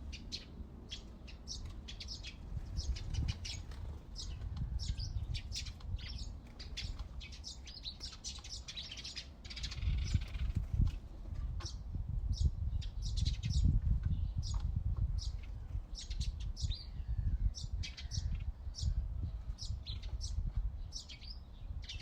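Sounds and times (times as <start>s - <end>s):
birds chirping and singing: 0.0s - 22.0s.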